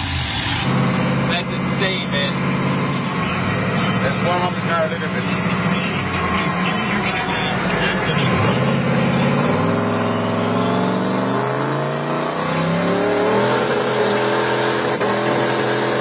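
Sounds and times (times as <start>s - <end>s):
diesel engine revving hard: 0.0s - 16.0s.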